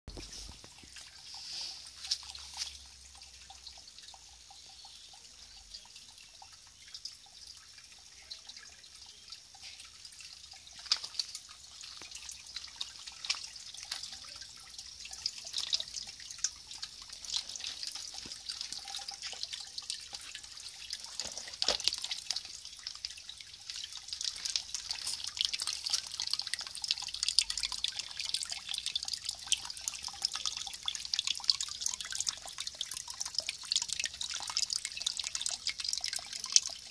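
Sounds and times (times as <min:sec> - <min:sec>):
water trickling and dripping: 0:00.1 - 0:36.9.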